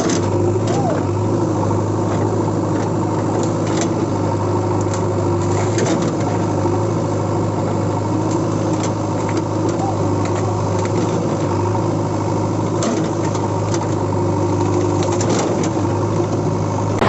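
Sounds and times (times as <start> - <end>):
steady motor hum: 0.0 - 17.0.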